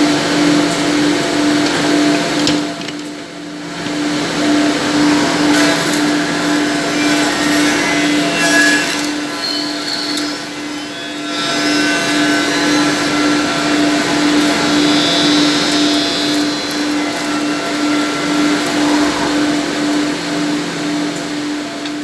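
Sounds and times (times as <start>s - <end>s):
high-pitched whine: 3.6s - 22.0s
milling machine whirring: 3.7s - 22.0s.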